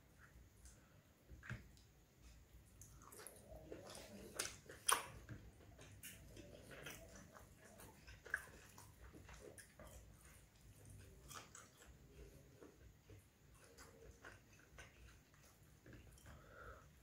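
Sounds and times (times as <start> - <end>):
chewing food: 0.2 - 17.0.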